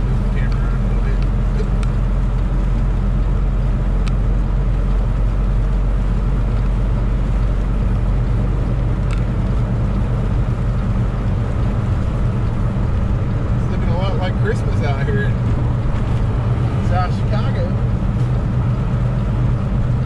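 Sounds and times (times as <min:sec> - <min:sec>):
road noise: 0:00.0 - 0:20.0
truck diesel engine drone: 0:00.0 - 0:20.0.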